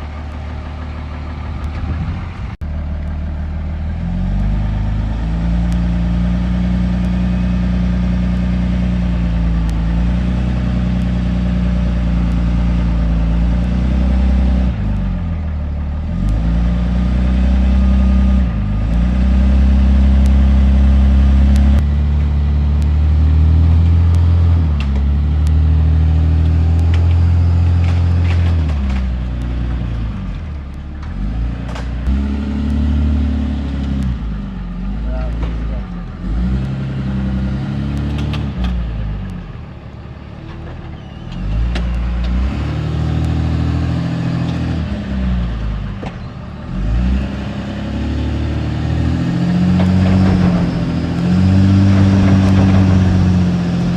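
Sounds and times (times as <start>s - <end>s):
truck engine running under load: 0.0s - 53.9s.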